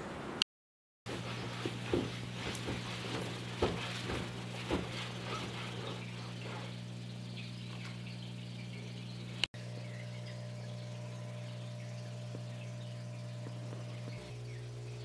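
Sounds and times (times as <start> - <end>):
low room hum: 1.1 - 15.0.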